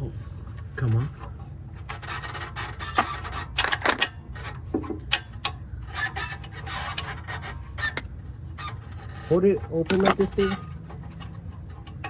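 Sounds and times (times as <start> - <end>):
metal scraping and rubbing: 0.0 - 12.0.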